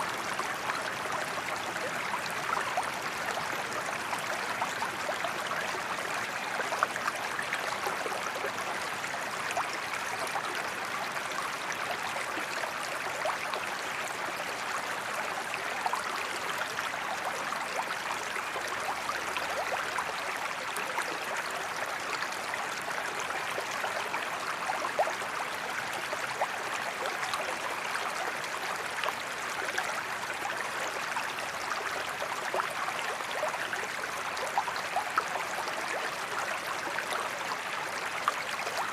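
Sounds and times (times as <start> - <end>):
flowing water rushing and splashing: 0.0 - 38.9.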